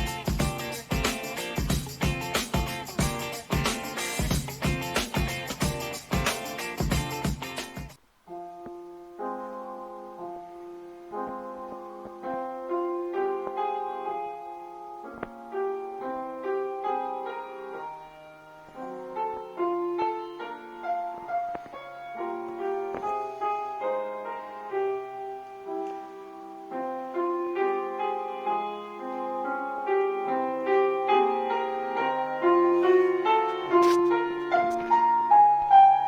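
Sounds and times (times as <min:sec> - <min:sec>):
classical piano music: 0:04.8 - 0:36.0.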